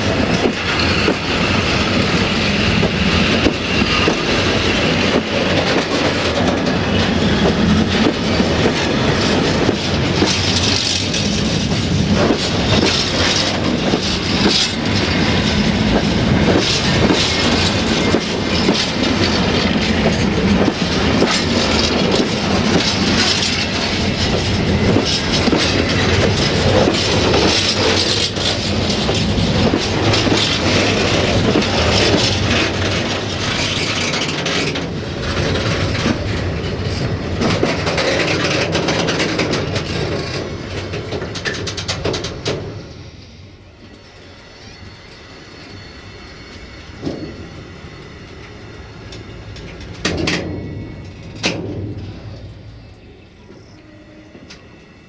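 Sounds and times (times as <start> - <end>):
freight wagon wheels rolling on rail: 0.0 - 55.0.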